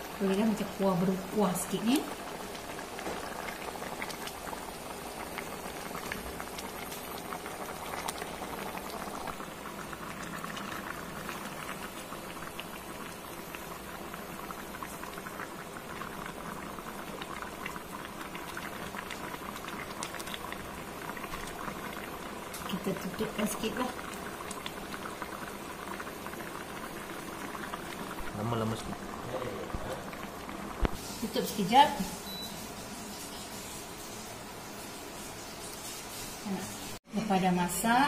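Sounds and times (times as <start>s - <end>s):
gravy boiling and bubbling: 0.0s - 38.0s.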